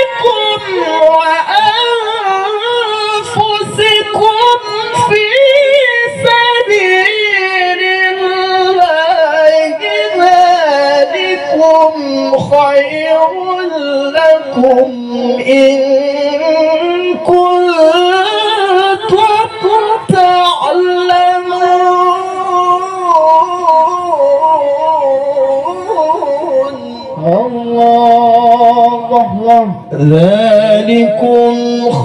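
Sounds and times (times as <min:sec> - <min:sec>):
man reciting in melodic chant: 0:00.0 - 0:32.0.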